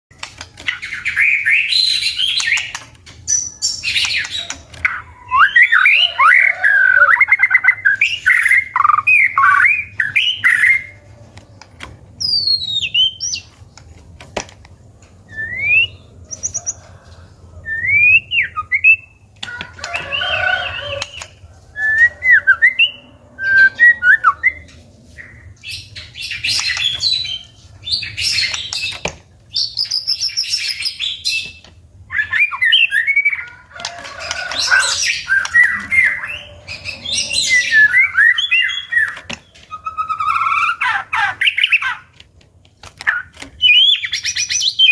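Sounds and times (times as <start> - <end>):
bird singing whistles and warbles: 0.7 - 11.0, 12.2 - 13.5, 15.3 - 16.8, 17.6 - 19.2, 19.9 - 33.5, 34.1 - 42.1, 43.0 - 44.9.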